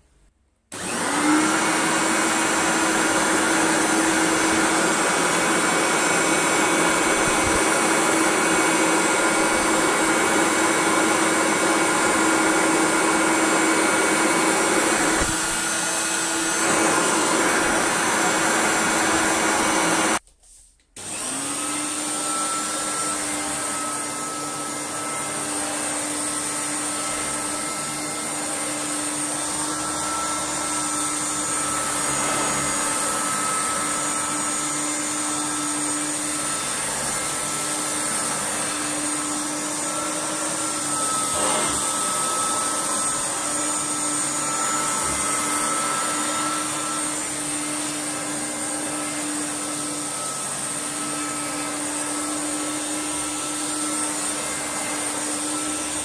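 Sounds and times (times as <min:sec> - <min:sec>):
vacuum cleaner running: 0:00.7 - 0:20.3, 0:21.0 - 0:56.0.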